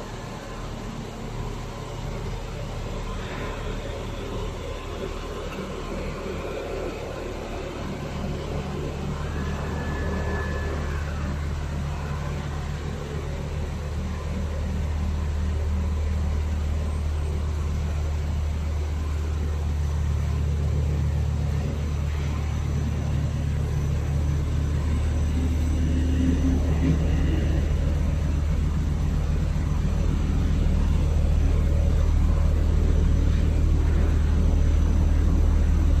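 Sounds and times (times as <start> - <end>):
machinery humming and droning: 0.0 - 36.0.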